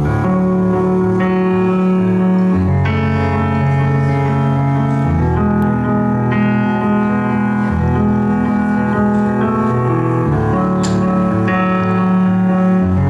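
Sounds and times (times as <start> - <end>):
stage piano chords: 0.0 - 13.0.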